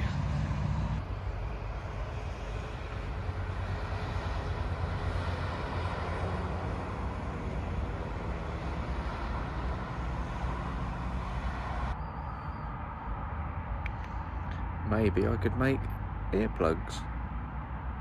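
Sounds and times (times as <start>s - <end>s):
cars driving past at speed: 0.0s - 18.0s.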